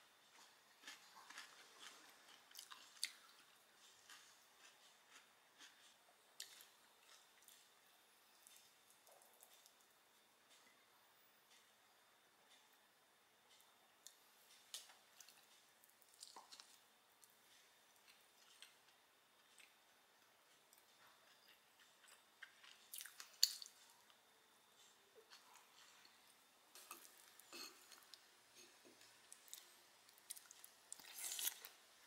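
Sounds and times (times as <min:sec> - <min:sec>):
chewing soft bread: 0:00.0 - 0:32.0.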